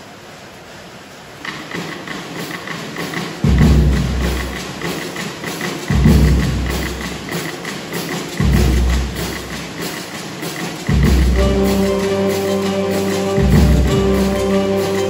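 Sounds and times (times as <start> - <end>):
fast ticking percussion: 1.4 - 15.0.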